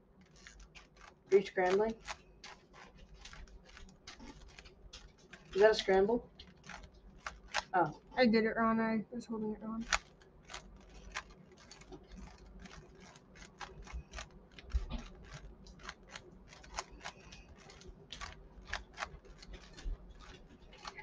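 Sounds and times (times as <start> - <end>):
plastic puzzle cube clicking: 0.2 - 7.8, 9.8 - 21.0.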